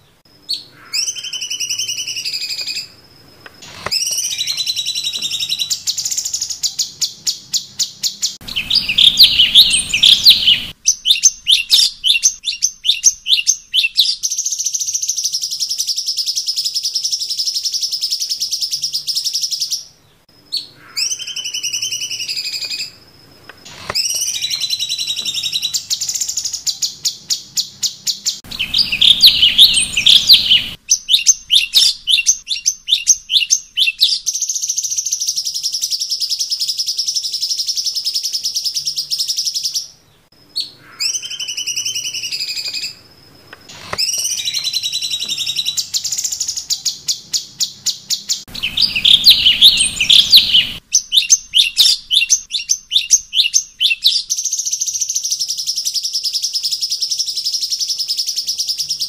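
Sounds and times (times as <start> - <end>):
songbird chirping and trilling: 0.0 - 59.0.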